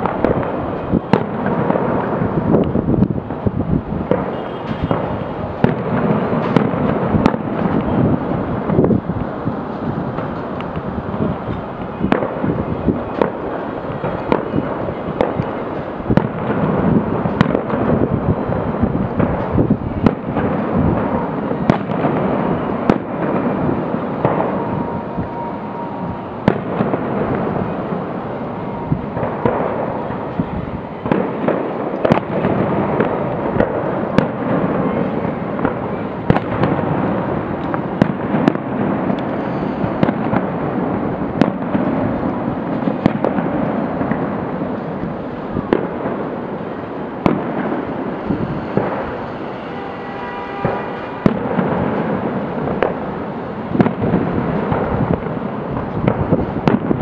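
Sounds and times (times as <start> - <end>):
fireworks bangs and booms: 0.0 - 57.0.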